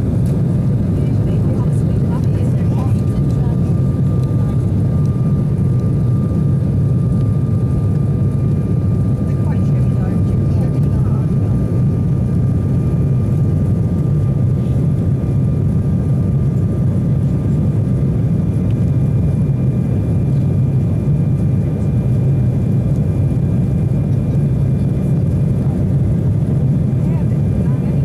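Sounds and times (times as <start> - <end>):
jet engine and airflow roar: 0.0 - 28.0.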